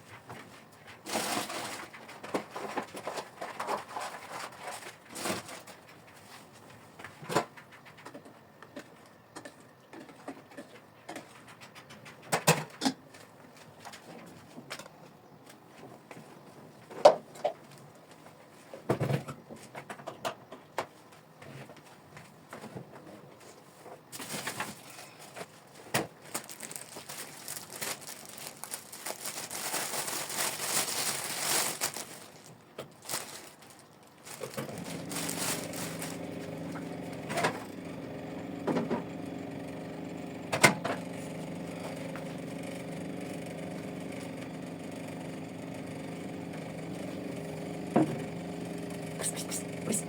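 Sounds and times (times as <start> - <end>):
crackling and rustling: 0.0 - 20.2, 20.9 - 44.8
steady mechanical hum: 0.0 - 50.0.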